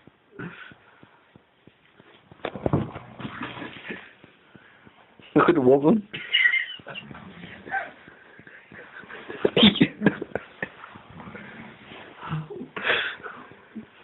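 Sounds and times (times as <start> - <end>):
rustling: 0.0 - 13.7.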